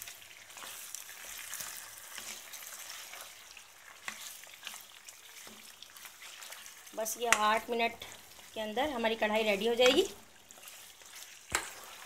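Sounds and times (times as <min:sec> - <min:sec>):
chicken frying high sizzle: 0:00.0 - 0:12.0.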